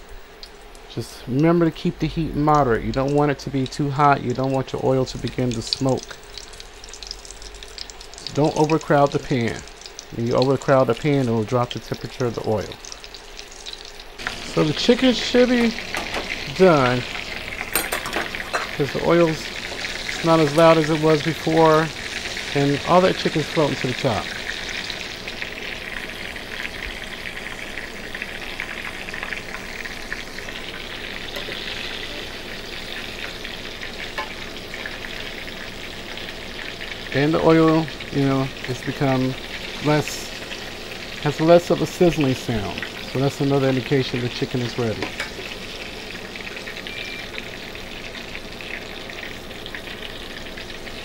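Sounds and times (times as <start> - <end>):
chicken deep-frying in hot oil: 0.0 - 51.0.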